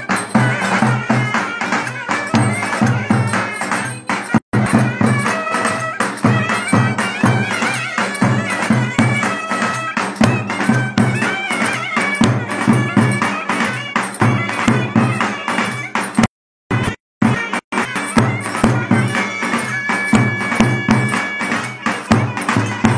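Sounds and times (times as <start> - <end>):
heavy drum beat: 0.0 - 22.9
jingling percussion: 0.0 - 22.9.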